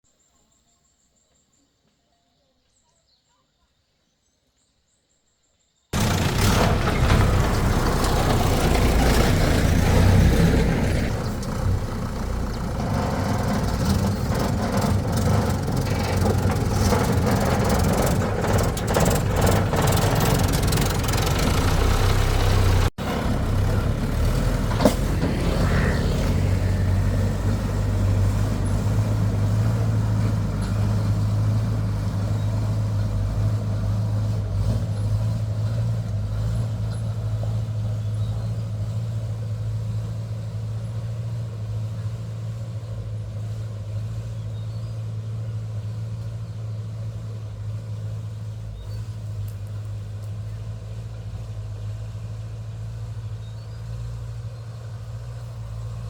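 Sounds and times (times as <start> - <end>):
heavy vehicle engine running: 6.0 - 56.0.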